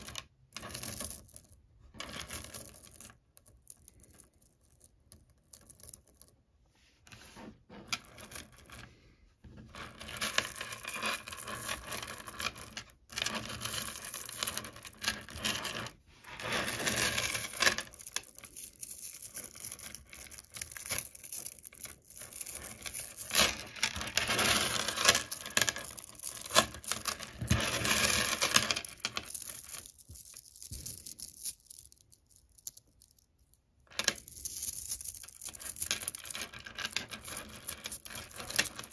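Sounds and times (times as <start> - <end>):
magnetic pebbles clicking and grinding: 0.0 - 6.4, 9.8 - 38.9.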